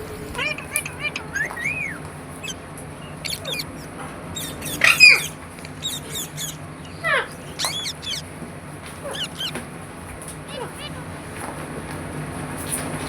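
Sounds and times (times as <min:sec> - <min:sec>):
parakeet chirps and squawks: 0:00.0 - 0:11.5.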